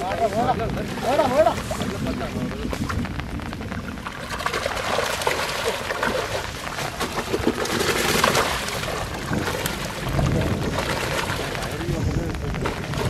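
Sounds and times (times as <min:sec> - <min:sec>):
wading through water: 0:00.0 - 0:13.0
fish splashing in water: 0:00.8 - 0:13.0.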